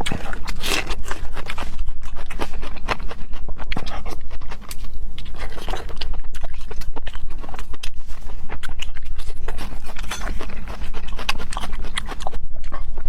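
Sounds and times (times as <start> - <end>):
person chewing loudly: 0.0 - 13.0
wet lip smacks and mouth clicks: 0.0 - 13.0.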